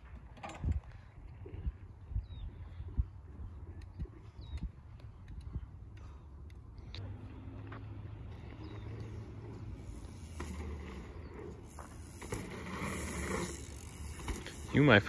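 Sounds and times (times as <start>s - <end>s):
bike tyres on packed dirt: 0.0s - 15.0s.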